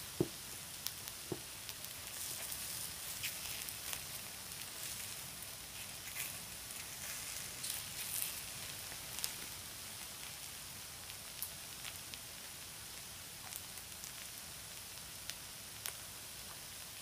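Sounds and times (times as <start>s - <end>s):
batter sizzling: 0.0s - 17.0s
small pops and crackles: 0.1s - 17.0s.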